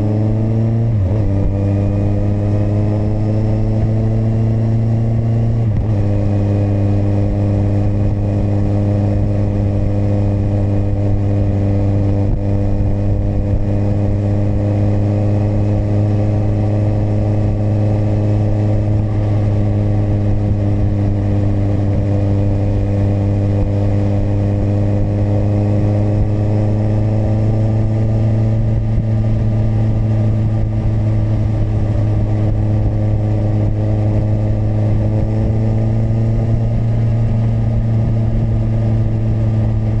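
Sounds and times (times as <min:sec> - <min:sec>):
motorcycle engine cruising: 0:00.0 - 0:40.0.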